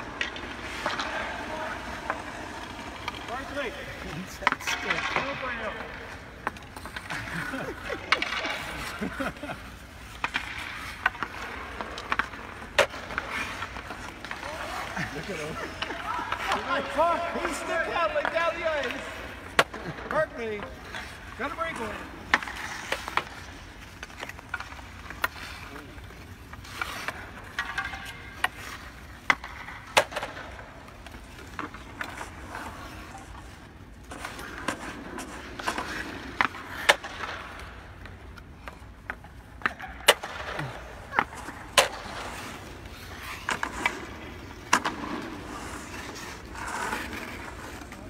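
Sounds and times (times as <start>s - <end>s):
hockey sticks and puck clacking: 0.0s - 48.0s
skate blades scraping ice: 0.0s - 48.0s.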